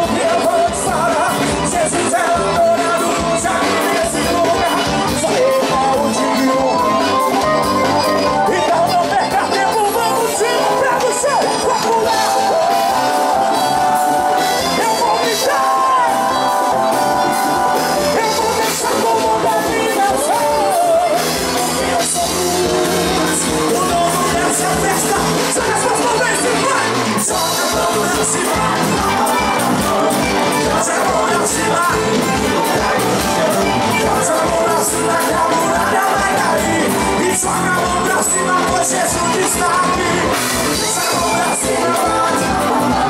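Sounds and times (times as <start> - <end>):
accordion: 0.0 - 43.0
bass guitar: 0.0 - 43.0
drum kit: 0.0 - 43.0
person singing: 0.0 - 43.0.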